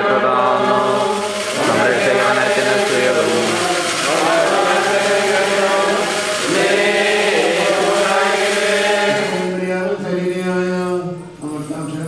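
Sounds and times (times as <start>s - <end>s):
liturgical chant in drawn-out notes: 0.0s - 11.4s.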